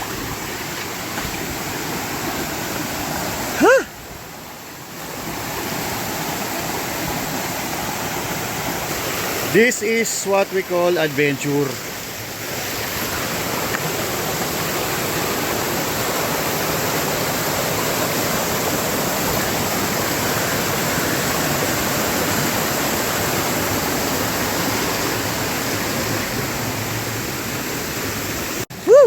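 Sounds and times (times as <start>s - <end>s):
rushing river water: 0.0s - 29.0s.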